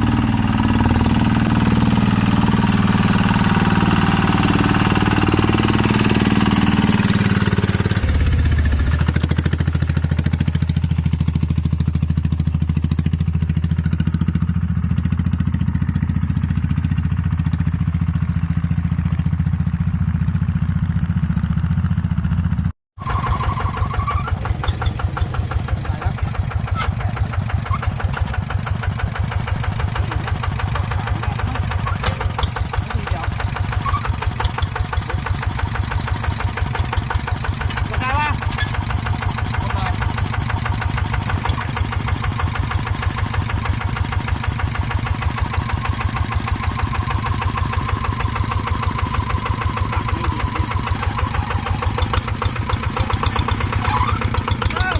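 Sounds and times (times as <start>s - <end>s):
machinery engine chugging: 0.0s - 54.9s.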